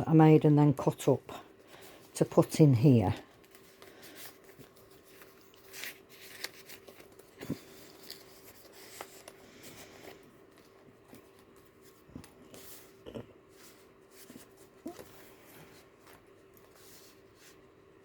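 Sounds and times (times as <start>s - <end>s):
faint steady hum: 0.0s - 18.0s
card pages rustling: 3.2s - 17.8s.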